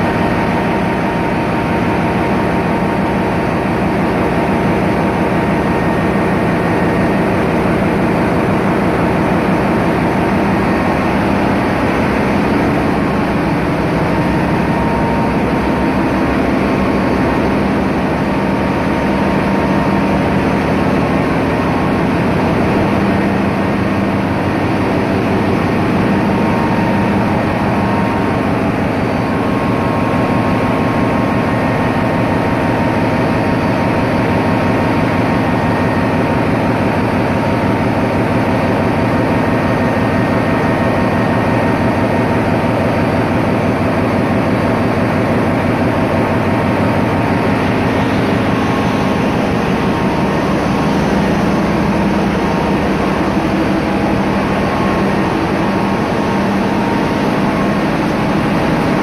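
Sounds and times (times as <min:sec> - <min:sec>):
diesel generators running: 0:00.0 - 0:59.0
engine room din: 0:00.0 - 0:59.0.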